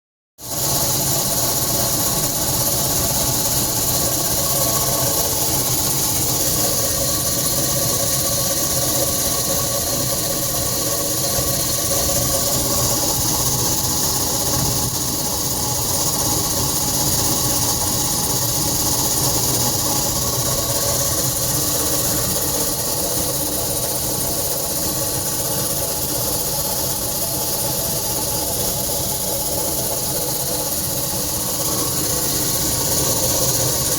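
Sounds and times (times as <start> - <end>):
air conditioner running: 0.4 - 33.9.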